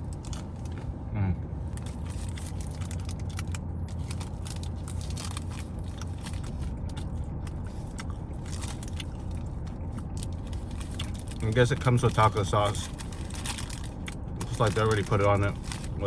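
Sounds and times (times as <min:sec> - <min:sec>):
crunching a hard taco shell: 0:01.7 - 0:16.0.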